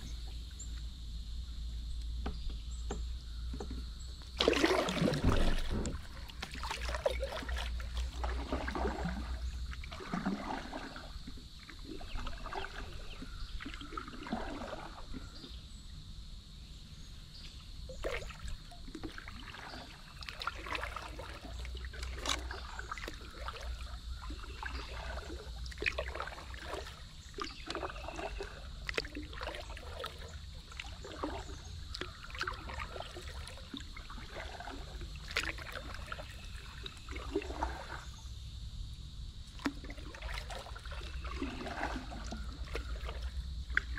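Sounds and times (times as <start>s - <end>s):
water trickling off paddle: 2.0s - 15.7s, 17.9s - 38.3s, 39.4s - 43.9s
paddle splashes: 2.1s - 15.8s, 17.4s - 38.4s, 39.4s - 43.9s.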